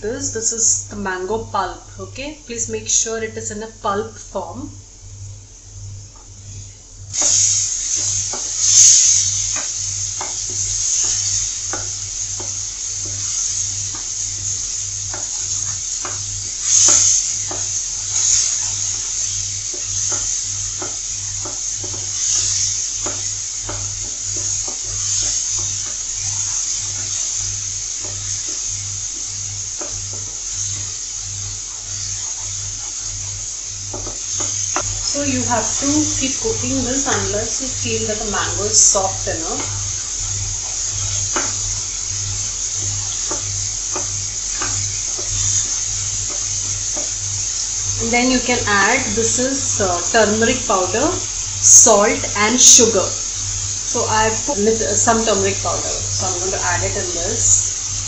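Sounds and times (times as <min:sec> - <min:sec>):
pulp sizzling in hot oil: 0:00.0 - 0:58.0
spatula scraping a pan: 0:06.5 - 0:54.4.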